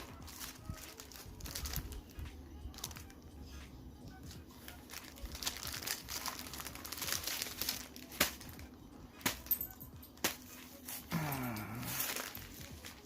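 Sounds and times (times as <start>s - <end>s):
paper packaging rustling: 0.0s - 3.2s, 4.1s - 9.5s, 10.1s - 13.0s.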